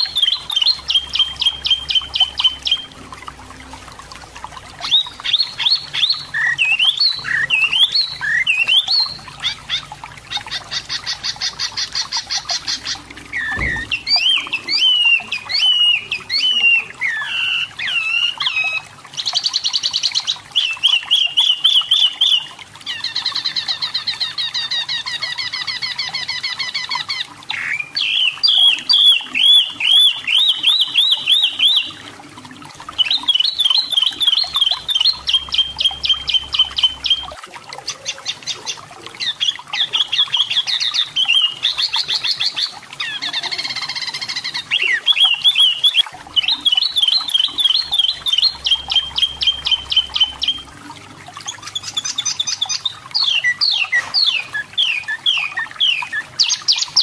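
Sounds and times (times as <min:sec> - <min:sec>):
bird singing varied phrases: 0:00.0 - 0:03.0, 0:04.8 - 0:32.0, 0:32.8 - 0:57.0.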